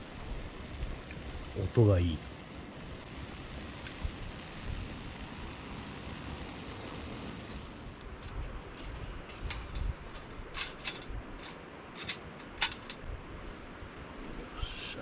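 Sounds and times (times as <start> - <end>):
firewood crackling and popping: 0.0 - 13.1.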